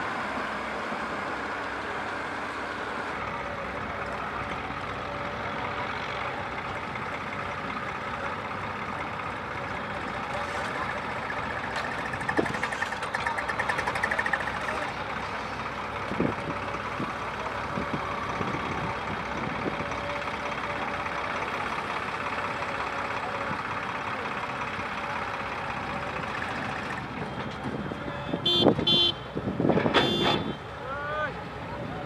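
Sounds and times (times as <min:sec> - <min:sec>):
diesel engines running: 0:00.0 - 0:32.0.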